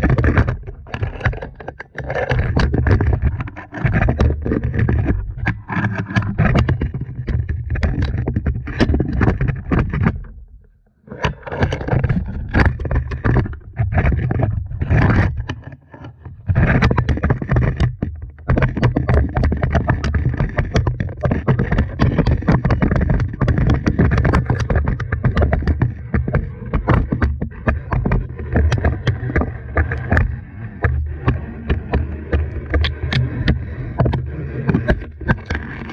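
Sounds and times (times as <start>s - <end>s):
camera scraping against rock wall: 0.0s - 10.3s, 11.1s - 35.9s.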